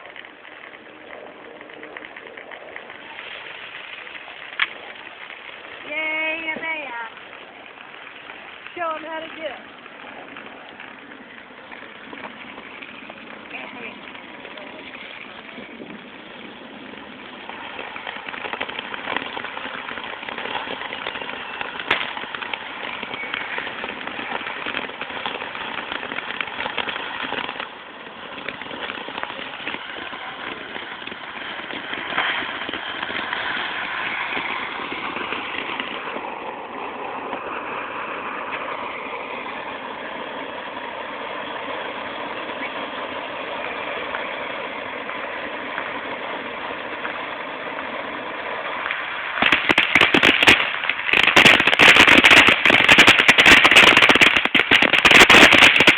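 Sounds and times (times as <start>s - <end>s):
firework fountain hissing and crackling: 0.0s - 55.9s.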